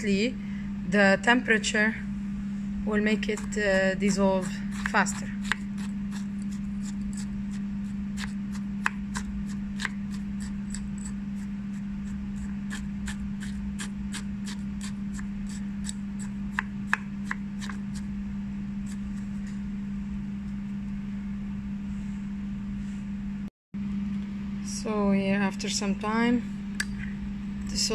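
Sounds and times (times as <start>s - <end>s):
low hum: 0.0s - 27.9s.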